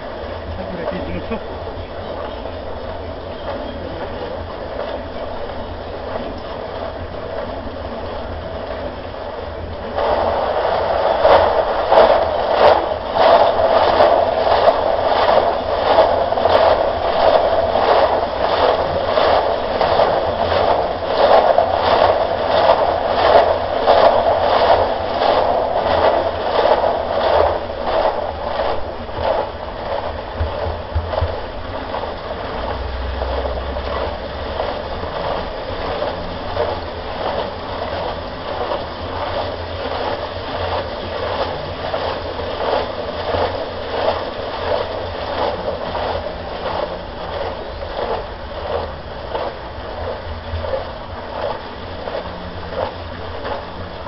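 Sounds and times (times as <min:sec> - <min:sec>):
concrete mixer churning: 0:00.0 - 0:54.0.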